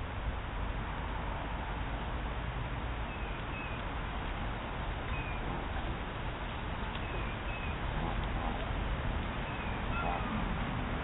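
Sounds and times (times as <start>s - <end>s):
background hiss and rumble: 0.0s - 11.0s.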